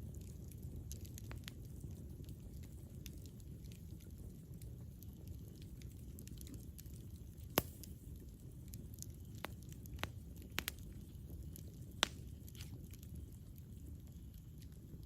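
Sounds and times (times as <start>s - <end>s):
fire crackling: 0.0s - 15.0s
flames rumbling: 0.0s - 15.0s.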